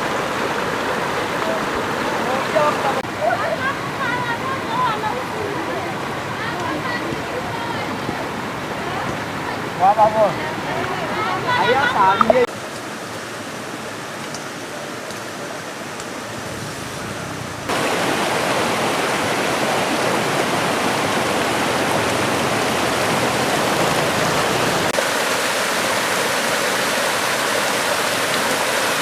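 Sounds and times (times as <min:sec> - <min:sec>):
rushing floodwater: 0:00.0 - 0:29.0.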